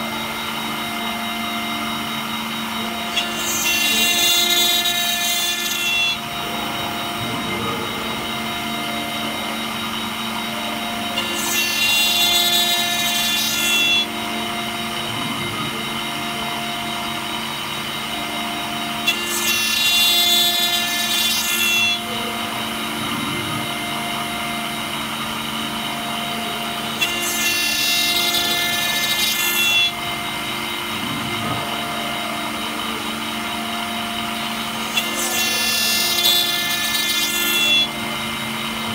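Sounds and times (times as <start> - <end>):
end mill cutting brass: 0.0 - 38.9
router spindle whine: 0.0 - 38.9.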